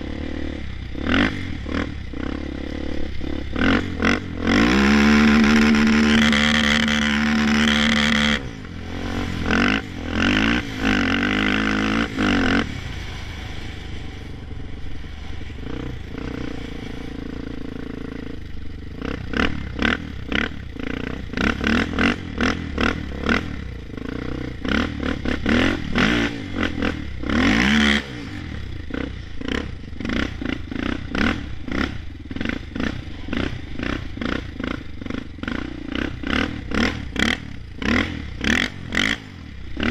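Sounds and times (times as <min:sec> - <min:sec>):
quad engine revving hard: 0:00.0 - 0:14.4, 0:19.0 - 0:39.9.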